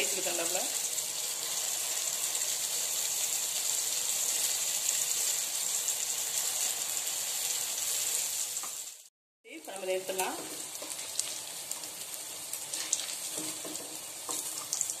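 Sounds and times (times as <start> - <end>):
batter sizzling in hot oil: 0.0 - 15.0.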